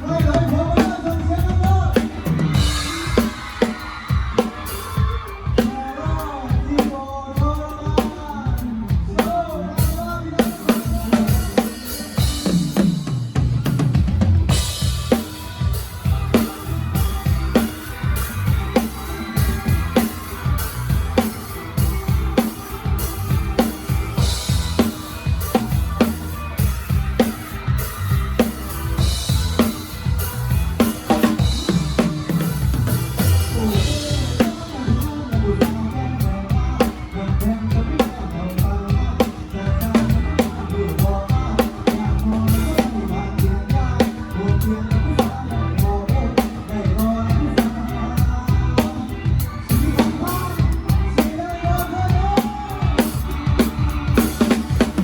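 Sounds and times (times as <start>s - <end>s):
drum kit groove: 0.0s - 55.0s.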